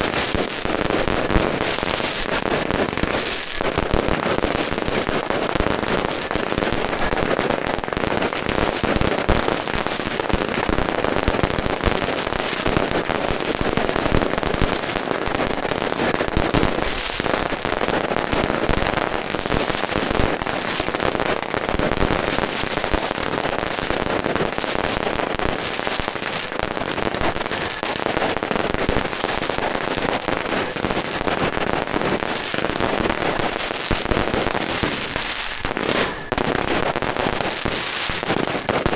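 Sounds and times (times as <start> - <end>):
firecrackers crackling: 0.0 - 38.9.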